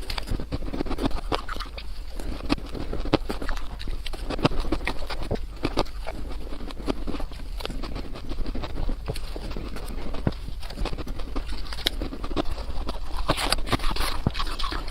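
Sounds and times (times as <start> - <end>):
crunching ice: 0.0 - 14.9.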